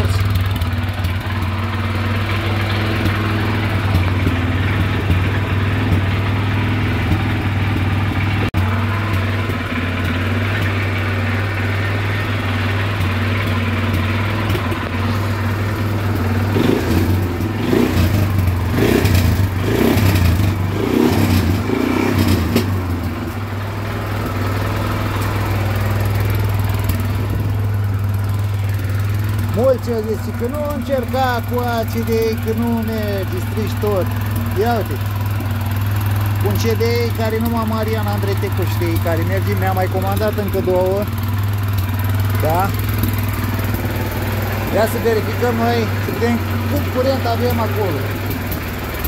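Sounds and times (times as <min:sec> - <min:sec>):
atv engine revving: 0:00.0 - 0:49.0.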